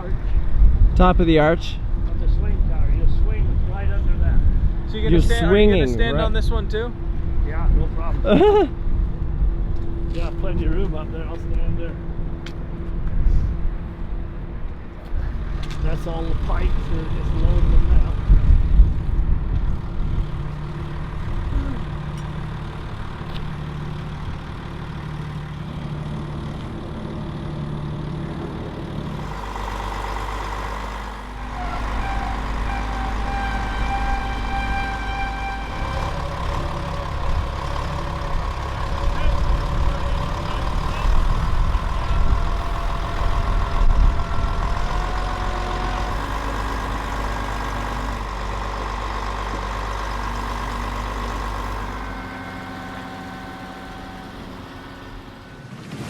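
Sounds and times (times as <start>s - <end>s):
heavy vehicle engine running: 0.0s - 56.0s.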